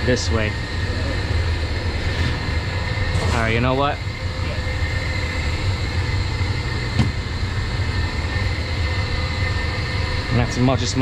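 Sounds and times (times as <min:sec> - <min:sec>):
faint whining tones: 0:00.0 - 0:11.0
machinery humming: 0:00.0 - 0:11.0.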